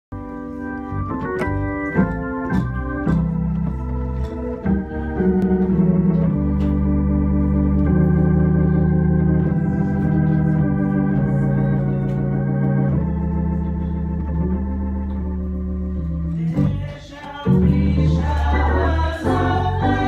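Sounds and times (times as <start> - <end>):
organ playing gospel chords: 0.1 - 20.0.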